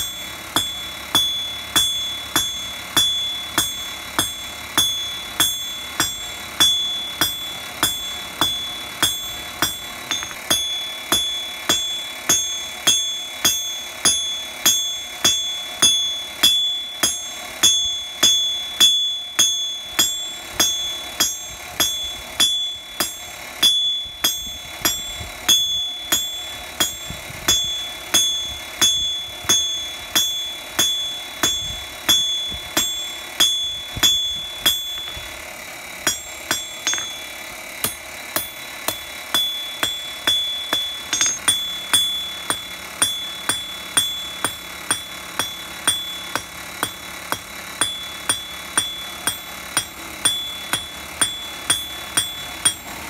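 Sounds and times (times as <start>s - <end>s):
hammer striking steel on anvil: 0.0s - 53.0s.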